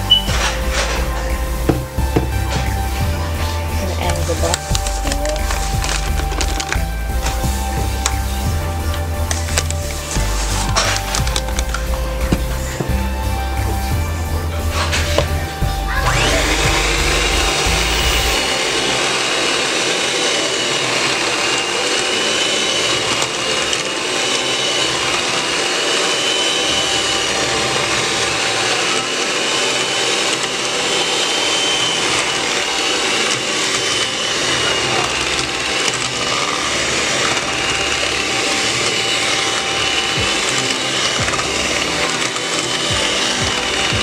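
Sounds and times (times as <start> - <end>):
beaters churning batter: 0.0 - 44.0
electric mixer motor whining: 0.0 - 44.0.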